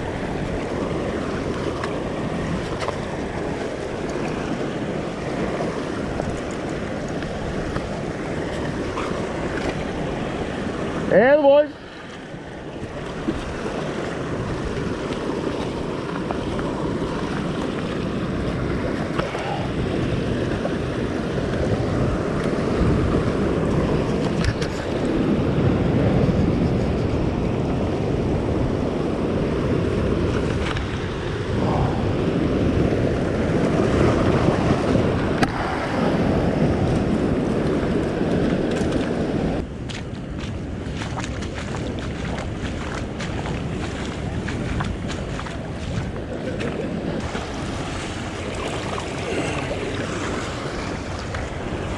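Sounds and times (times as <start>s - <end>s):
waves washing against rock: 0.0s - 51.9s
wind blowing across microphone: 0.0s - 51.9s.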